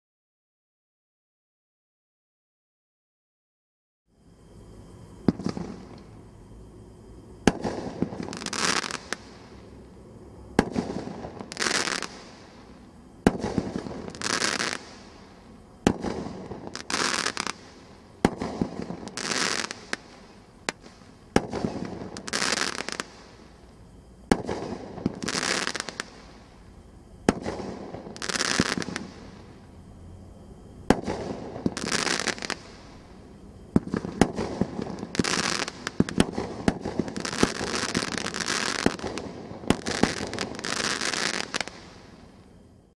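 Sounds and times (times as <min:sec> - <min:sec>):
crackling firework bursts: 0:04.8 - 0:06.4, 0:07.3 - 0:30.0, 0:30.6 - 0:42.5.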